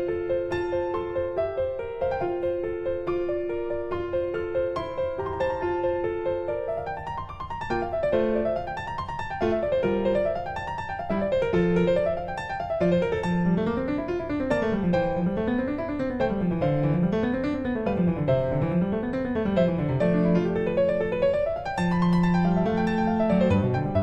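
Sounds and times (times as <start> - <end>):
background piano music: 0.0 - 24.0.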